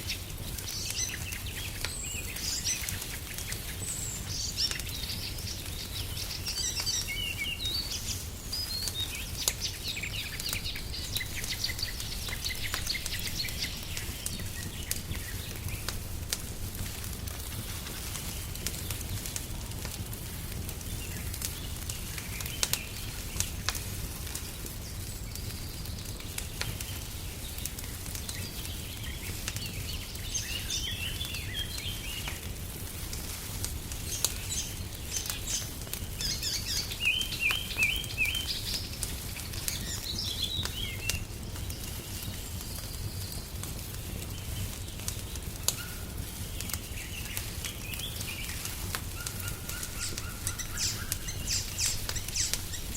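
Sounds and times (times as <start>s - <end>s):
songbirds chirping: 0.0s - 52.9s
wood fire crackling: 0.0s - 52.9s.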